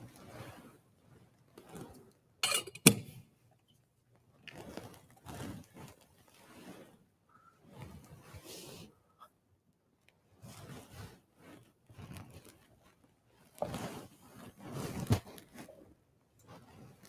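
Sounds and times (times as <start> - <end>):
rustling and scraping handling: 0.0 - 17.0.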